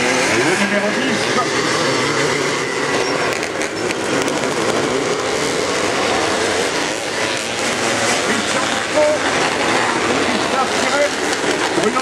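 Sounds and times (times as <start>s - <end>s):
motorcycle engines at race revs: 0.0s - 12.0s.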